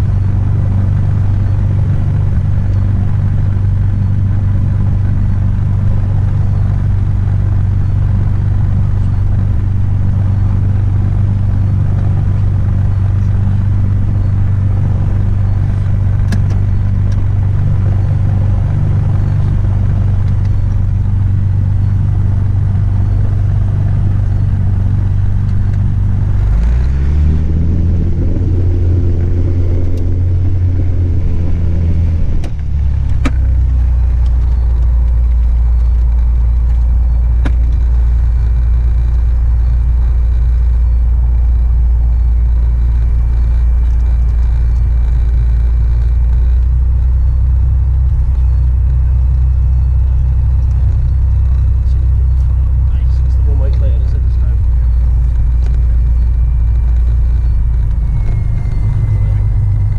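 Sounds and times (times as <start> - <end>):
light aircraft engine from cabin: 0.0 - 59.9.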